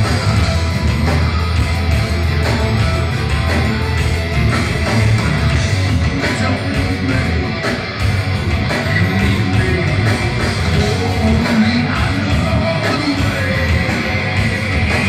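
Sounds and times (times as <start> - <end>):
bass: 0.0 - 15.0
distorted electric guitar: 0.0 - 15.0.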